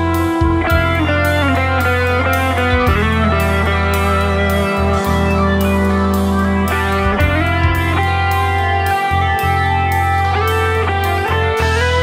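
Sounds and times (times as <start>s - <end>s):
bass line: 0.0s - 12.0s
electric guitar run: 0.0s - 12.0s
rock drums: 0.0s - 12.0s.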